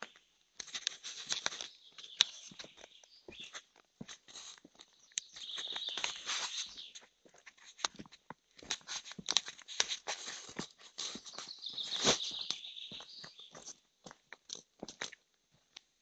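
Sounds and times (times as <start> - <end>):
footsteps crunching on dry leaves: 0.7 - 13.8.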